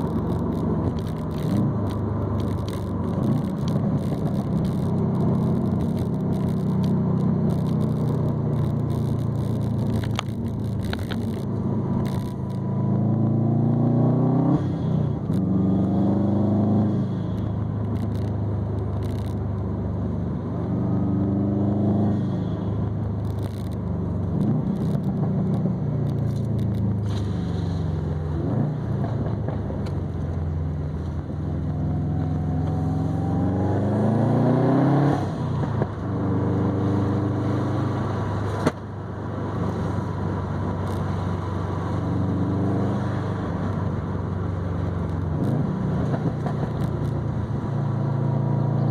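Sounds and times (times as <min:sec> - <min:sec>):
car exhaust accelerating: 0:00.0 - 0:48.9.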